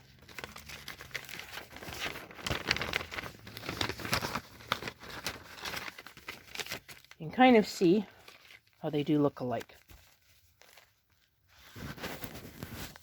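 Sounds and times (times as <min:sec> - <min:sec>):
paper rustling and crackling: 0:00.0 - 0:13.0.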